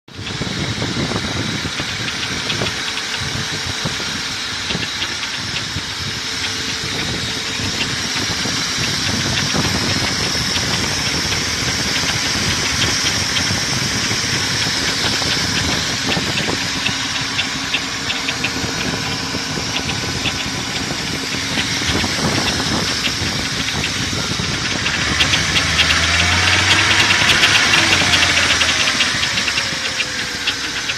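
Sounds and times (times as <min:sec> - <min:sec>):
car engine ticking: 0:00.1 - 0:30.9
engine revving: 0:00.1 - 0:30.9.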